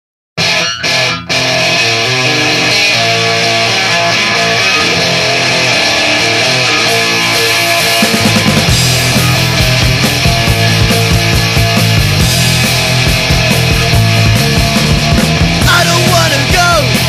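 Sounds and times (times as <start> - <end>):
bass guitar: 0.4 - 17.0
drums: 0.4 - 17.0
electric guitar strumming chords: 0.4 - 17.0.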